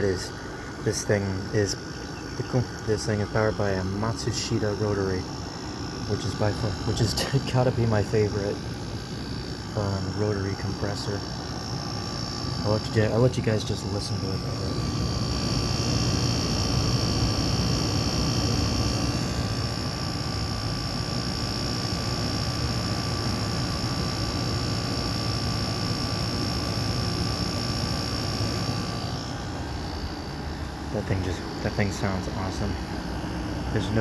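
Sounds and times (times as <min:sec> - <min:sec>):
air conditioner compressor roar: 0:00.0 - 0:34.0
condenser fan rush: 0:00.0 - 0:34.0
steady hum: 0:00.0 - 0:34.0.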